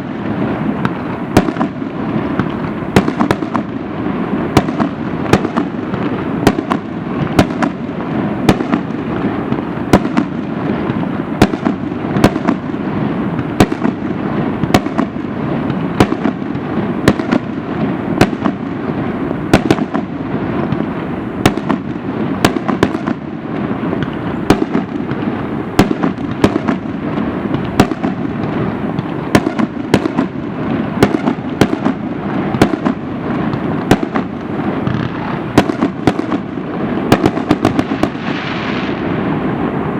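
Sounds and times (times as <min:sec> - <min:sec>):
fireworks rumble and crackle: 0:00.0 - 0:39.9
fireworks shells bursting: 0:00.0 - 0:39.9.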